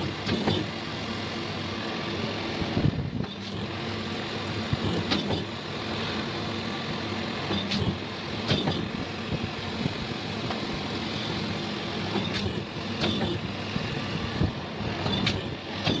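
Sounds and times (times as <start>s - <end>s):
hydraulic pump humming: 0.0s - 16.0s.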